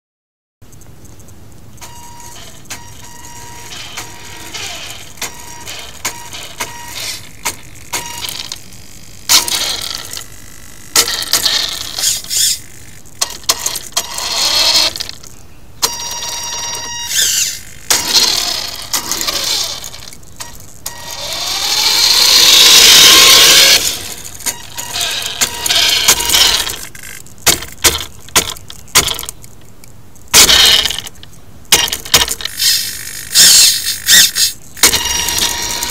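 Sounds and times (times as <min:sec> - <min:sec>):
rc car motor whining: 0:01.8 - 0:15.2, 0:15.8 - 0:27.3, 0:30.4 - 0:31.1, 0:31.8 - 0:35.9.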